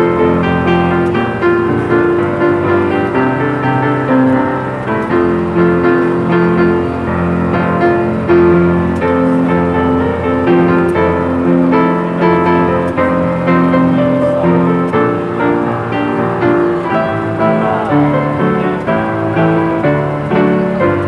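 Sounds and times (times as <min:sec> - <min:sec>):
solo piano playing pop tune: 0:00.0 - 0:21.0.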